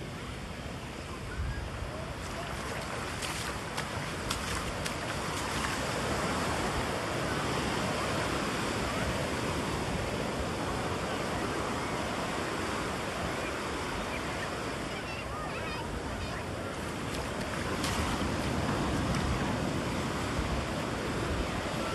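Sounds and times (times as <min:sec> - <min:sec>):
small waves breaking on sand: 0:00.0 - 0:21.9.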